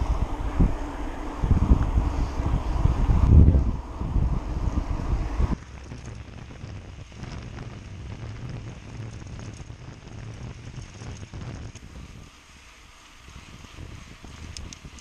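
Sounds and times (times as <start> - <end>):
bicycle tyres rumbling on tarmac: 0.0 - 15.0
wind buffeting microphone: 0.0 - 15.0.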